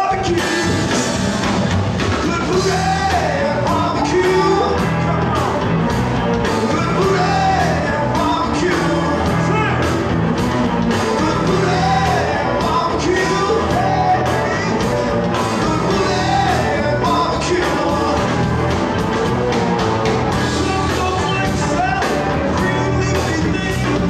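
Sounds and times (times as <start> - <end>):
drums keeping a beat: 0.0 - 24.0
electric bass: 0.0 - 24.0
electric guitars: 0.0 - 24.0.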